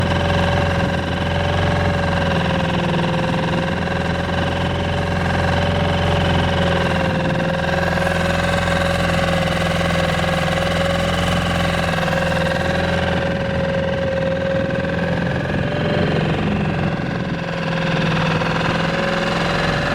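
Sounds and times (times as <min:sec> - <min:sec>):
outboard motor running: 0:00.0 - 0:19.9.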